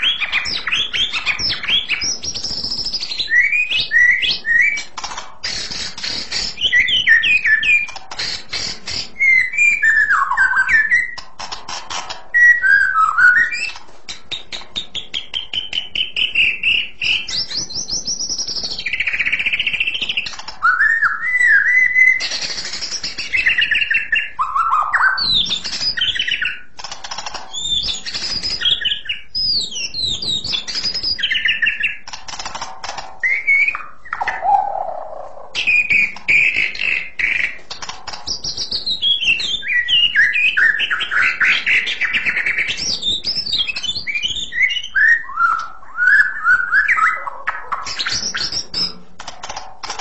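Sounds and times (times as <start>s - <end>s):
bird singing: 0.0s - 11.3s, 12.3s - 26.8s, 27.4s - 32.1s, 33.2s - 49.0s.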